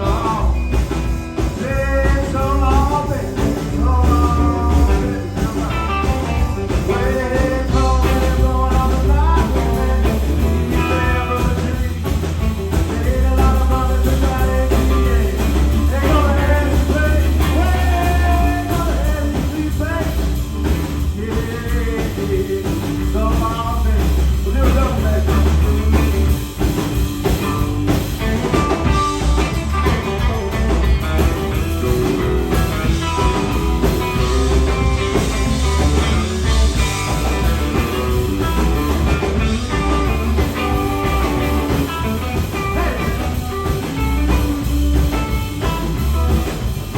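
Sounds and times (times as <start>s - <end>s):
bass guitar: 0.0s - 46.9s
drum kit: 0.0s - 46.9s
electric guitar: 0.0s - 46.9s.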